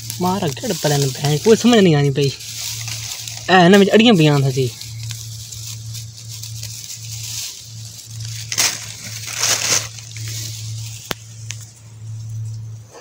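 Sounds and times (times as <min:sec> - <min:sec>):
crunching and scraping: 0:00.0 - 0:13.0
low hum: 0:00.0 - 0:13.0.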